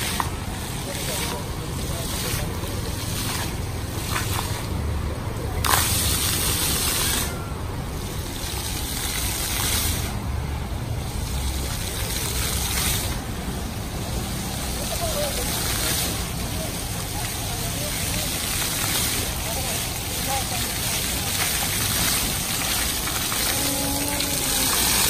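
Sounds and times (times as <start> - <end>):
fountain jets splashing on paving: 0.0 - 25.0.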